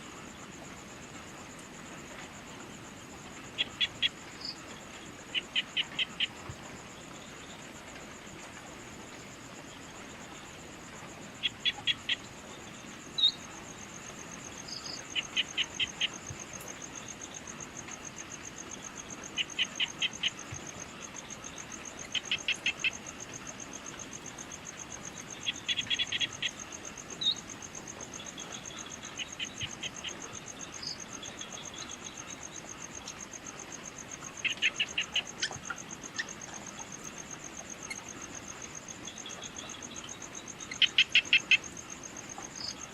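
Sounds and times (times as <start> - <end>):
high insect trill: 0.0 - 42.9.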